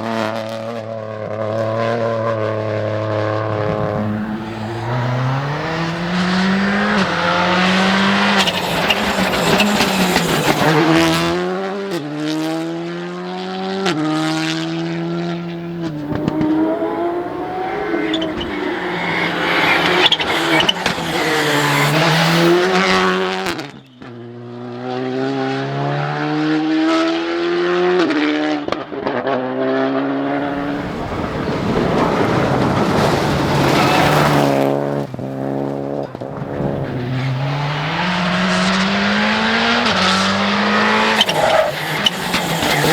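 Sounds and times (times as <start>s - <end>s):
rally car engines revving: 3.3s - 42.9s.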